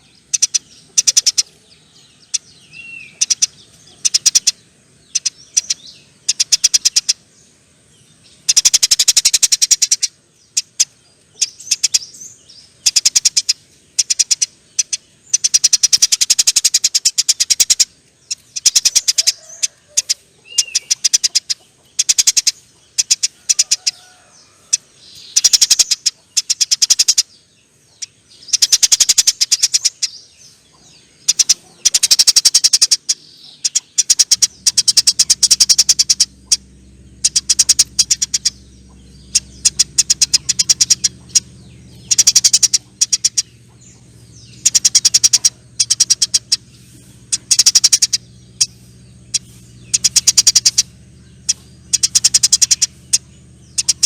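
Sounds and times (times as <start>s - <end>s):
sparrow chattering trills: 0.0s - 54.0s
sparrow chirps: 0.0s - 54.0s.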